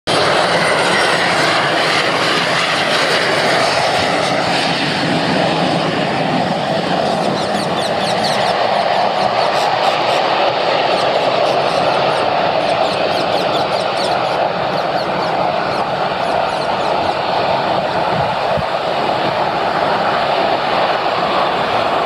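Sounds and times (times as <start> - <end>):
jet engines running: 0.1 - 22.0.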